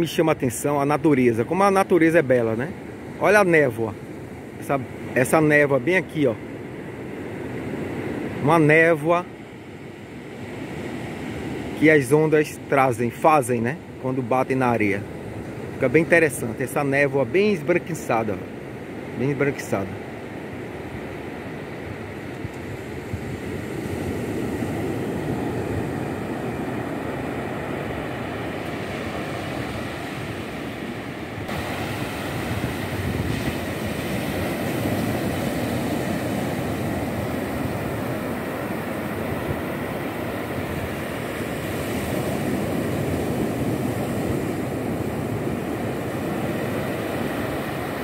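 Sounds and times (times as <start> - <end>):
ocean surf breaking on beach: 0.0 - 48.0.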